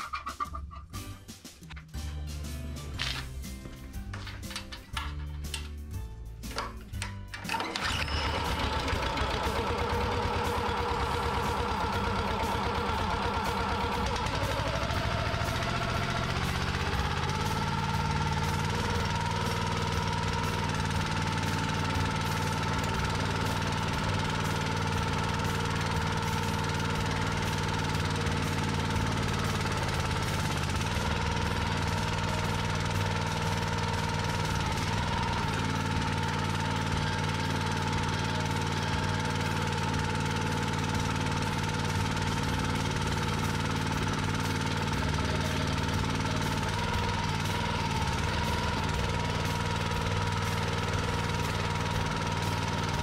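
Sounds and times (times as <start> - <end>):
small engine running: 2.8 - 5.8, 6.4 - 53.0.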